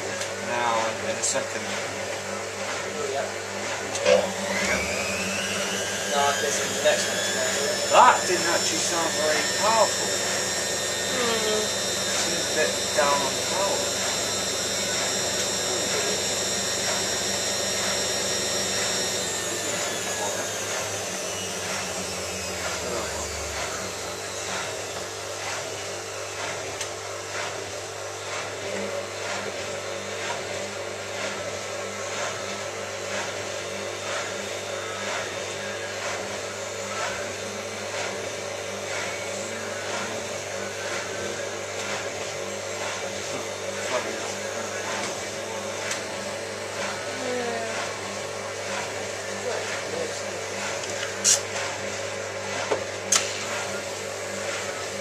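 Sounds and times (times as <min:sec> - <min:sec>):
washing machine motor whining: 0:00.0 - 0:55.0.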